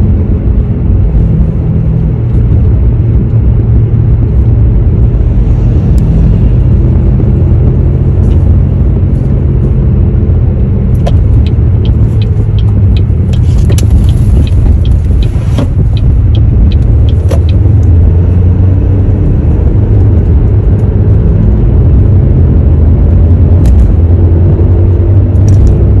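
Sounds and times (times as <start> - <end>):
car driving with humming drone: 0.0 - 26.0.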